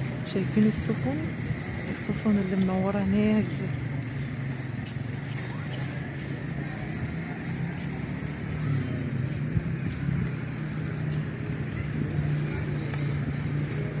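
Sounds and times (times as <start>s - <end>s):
constant rumble: 0.0s - 14.0s
motor vehicle engine hum: 0.0s - 14.0s.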